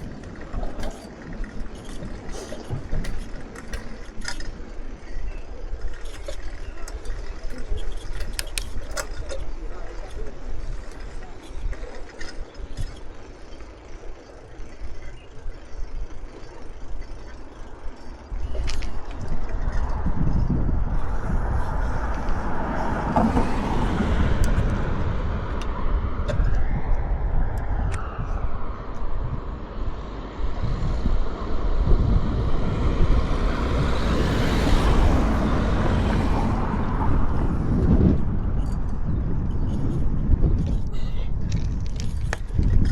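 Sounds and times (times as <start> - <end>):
road noise from bike: 0.0 - 42.9
wind rumble: 0.0 - 42.9.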